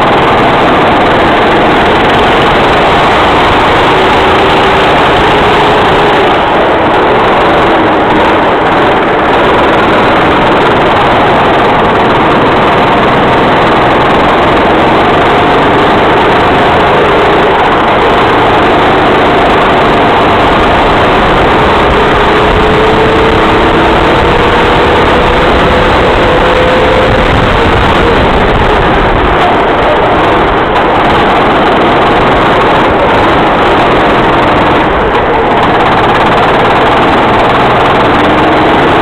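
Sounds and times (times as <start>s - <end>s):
racing kart engine: 0.0s - 39.0s.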